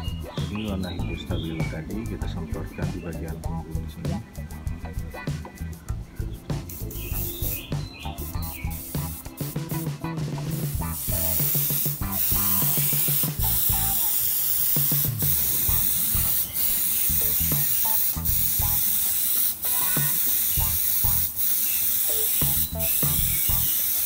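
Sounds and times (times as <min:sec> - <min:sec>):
airbrush spraying hiss: 0:00.0 - 0:24.0.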